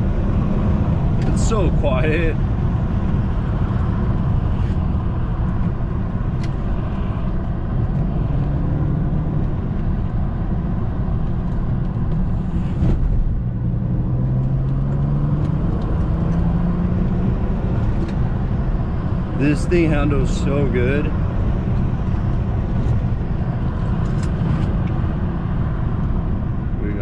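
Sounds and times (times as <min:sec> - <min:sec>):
car engine while driving: 0:00.0 - 0:27.0
low road rumble: 0:00.0 - 0:27.0.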